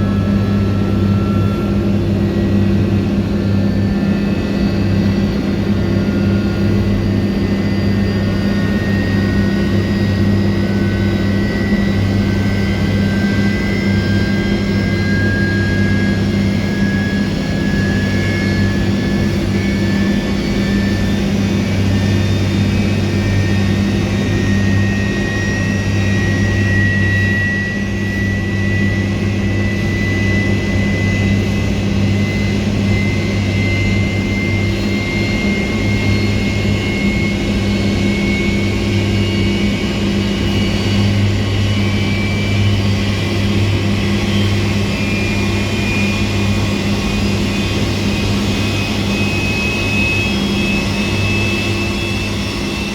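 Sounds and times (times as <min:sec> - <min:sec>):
jet engine high whine: 0:00.0 - 0:52.9
jet engines low hum: 0:00.0 - 0:52.9.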